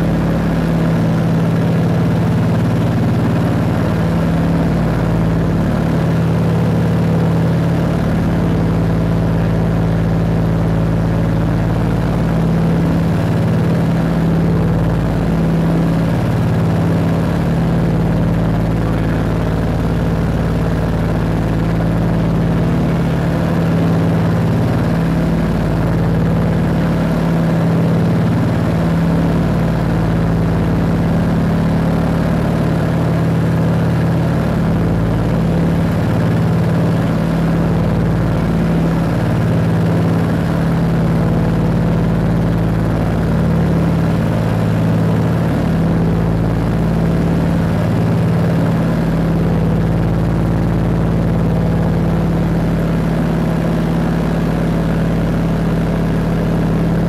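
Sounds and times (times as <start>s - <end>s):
propeller aircraft engines droning: 0.0s - 57.0s.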